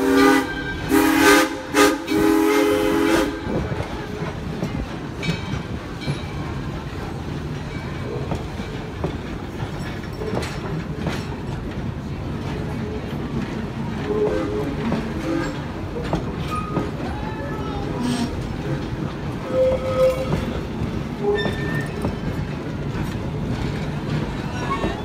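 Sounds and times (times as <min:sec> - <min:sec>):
train coaches rumbling past: 0:00.0 - 0:25.0
wheels clicking over rail joints: 0:03.5 - 0:25.0.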